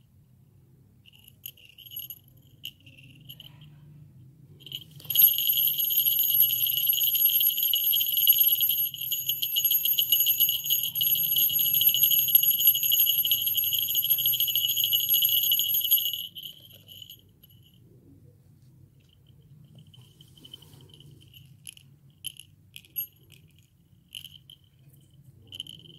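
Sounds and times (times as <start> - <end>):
small bell jingling: 1.0 - 3.8, 4.6 - 17.8, 19.0 - 25.9.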